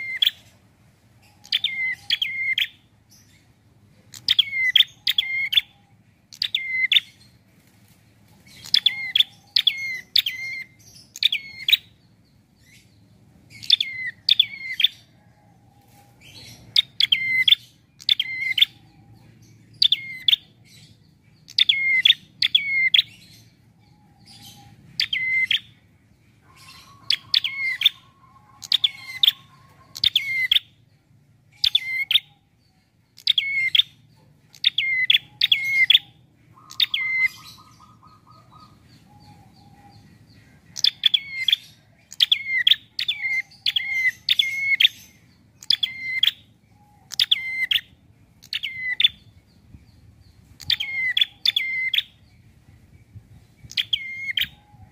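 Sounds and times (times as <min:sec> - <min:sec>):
bird chirping: 0:00.0 - 0:54.9.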